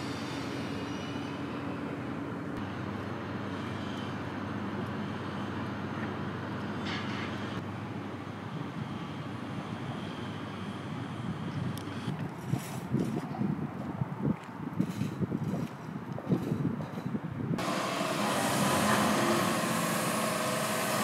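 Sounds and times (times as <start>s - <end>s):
tram humming and rumbling: 0.0s - 14.0s, 14.8s - 21.0s
street noise: 0.0s - 21.0s.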